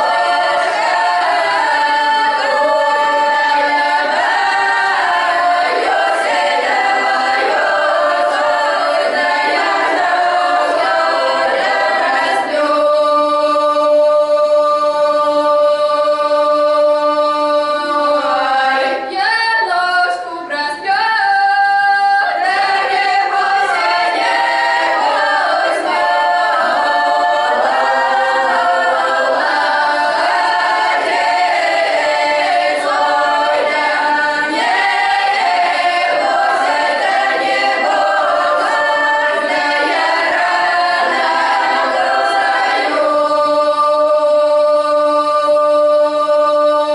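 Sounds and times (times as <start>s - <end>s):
children singing a cappella: 0.0s - 46.9s.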